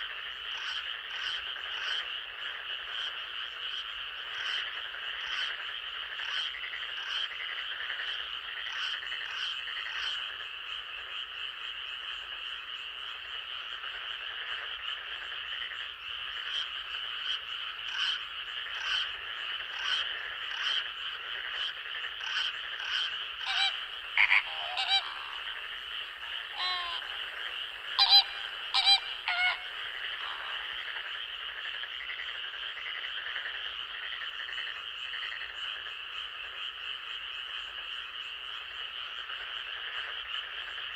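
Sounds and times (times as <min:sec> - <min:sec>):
frog calls: 0:00.0 - 0:40.9
frogs chorus: 0:00.0 - 0:40.9.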